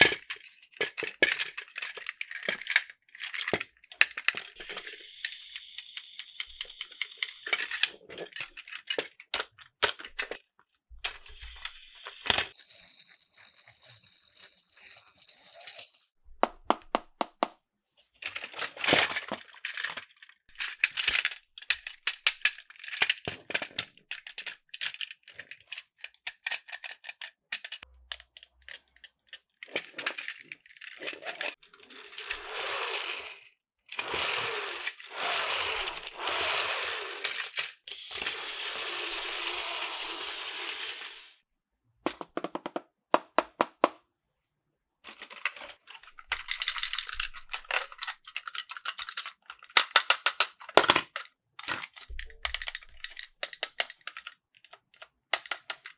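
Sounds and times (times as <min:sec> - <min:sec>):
toy train motor whirring: 0:00.0 - 0:10.4, 0:11.0 - 0:16.2, 0:18.3 - 0:41.4, 0:46.0 - 0:55.9
plastic toy train cars clicking: 0:00.0 - 0:17.6, 0:18.2 - 0:41.4, 0:42.1 - 0:44.0, 0:45.1 - 0:55.9.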